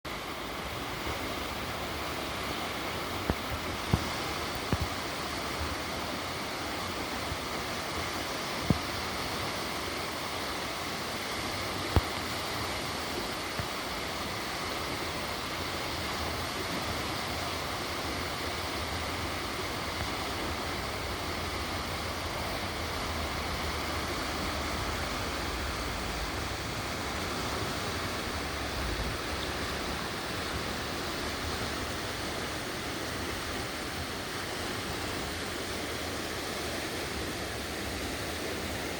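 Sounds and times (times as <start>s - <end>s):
fast water rushing over rocks: 0.1s - 38.9s.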